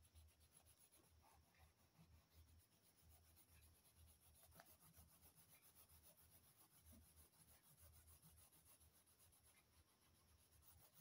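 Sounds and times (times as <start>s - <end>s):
fingertips rubbing crayon on paper: 0.0s - 11.0s.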